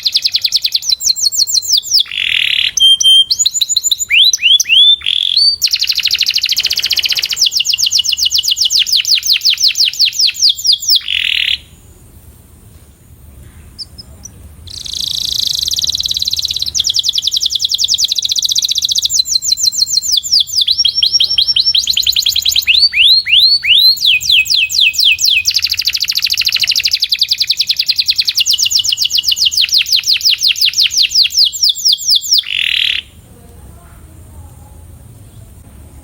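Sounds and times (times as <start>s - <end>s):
canary singing trills: 0.0s - 12.1s, 13.4s - 33.2s.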